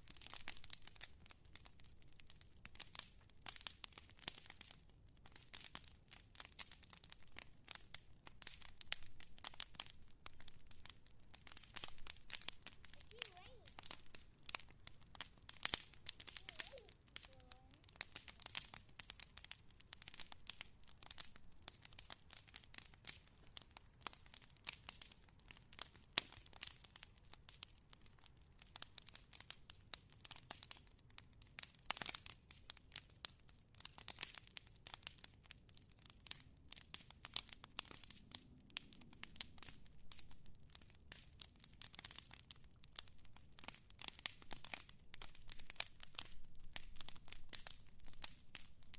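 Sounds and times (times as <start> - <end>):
fire crackling: 0.0 - 48.9.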